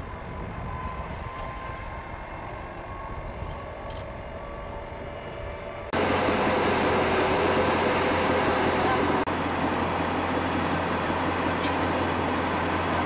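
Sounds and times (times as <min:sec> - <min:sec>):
tracked vehicle engine and tracks: 0:00.0 - 0:13.0.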